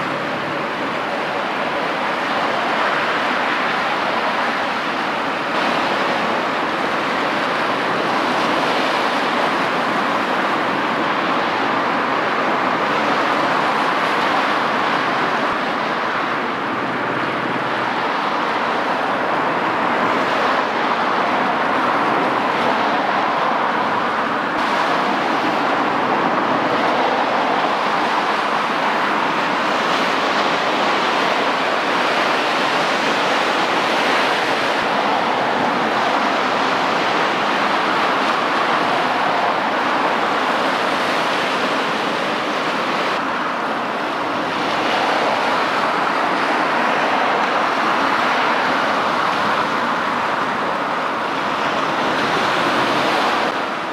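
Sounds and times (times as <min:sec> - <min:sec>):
churning seawater and waves: 0:00.0 - 0:53.9.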